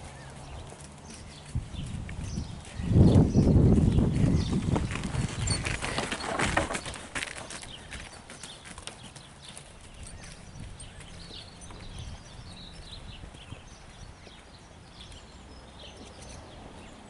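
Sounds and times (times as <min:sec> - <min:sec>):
horse hoofbeats on arena surface: 0:00.0 - 0:16.9.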